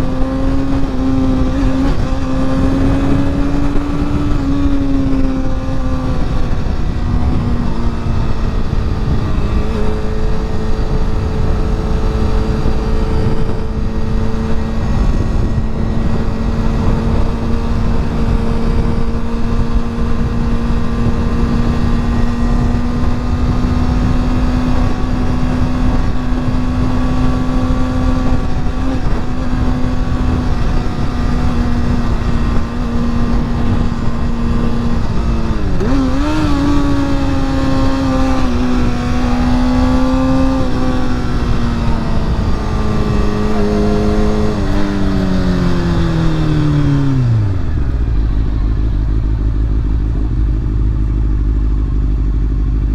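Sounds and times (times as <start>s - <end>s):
motorcycle engine cruising: 0.0s - 52.9s
wind rumble on microphone: 0.0s - 52.9s.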